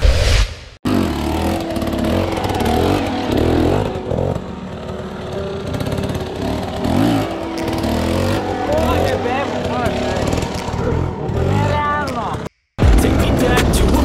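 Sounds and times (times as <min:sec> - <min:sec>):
dirt bike engines revving: 0:00.9 - 0:14.0.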